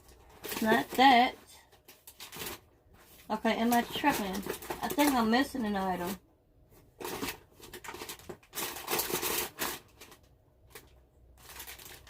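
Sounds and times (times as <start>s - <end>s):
plastic wrappers rustling: 0.0s - 6.2s, 6.8s - 12.0s.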